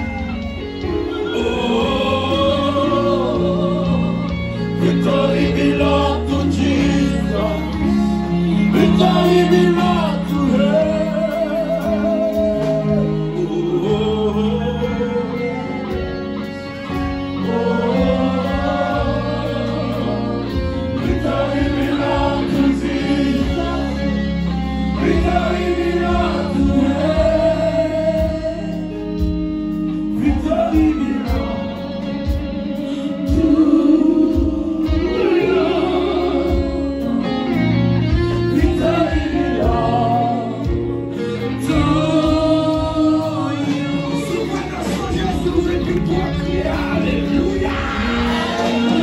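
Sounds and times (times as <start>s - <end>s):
band with bass line: 0.0s - 49.0s
choir voices: 0.0s - 49.0s.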